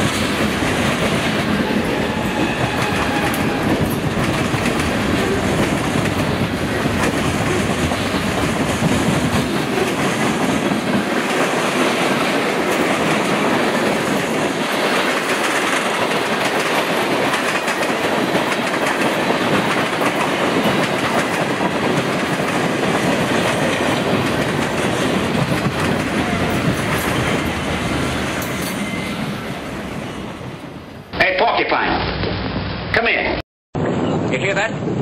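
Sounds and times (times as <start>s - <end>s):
freight train rolling past: 0.0s - 31.4s, 33.8s - 35.0s.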